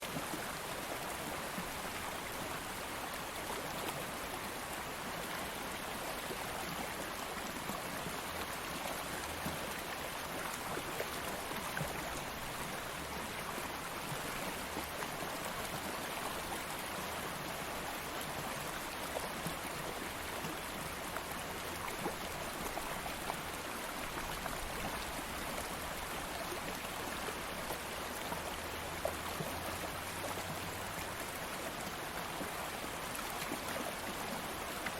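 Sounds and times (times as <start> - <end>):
water flowing over rocks: 0.0 - 34.9.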